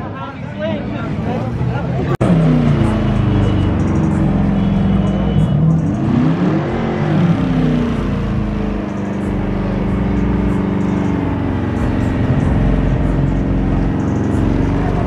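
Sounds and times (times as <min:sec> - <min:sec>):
car engine at high revs: 0:00.8 - 0:15.0.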